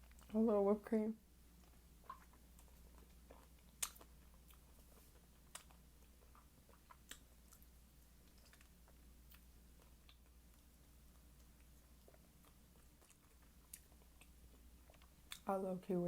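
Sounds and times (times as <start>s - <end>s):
chewing with wet mouth sounds: 0.0s - 0.4s, 1.5s - 15.5s.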